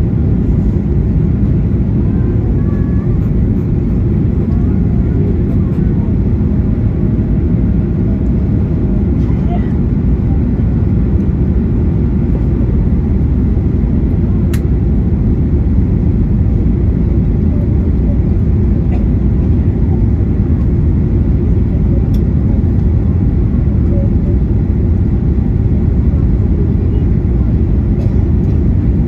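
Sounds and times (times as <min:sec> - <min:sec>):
jet engine drone: 0:00.0 - 0:29.0.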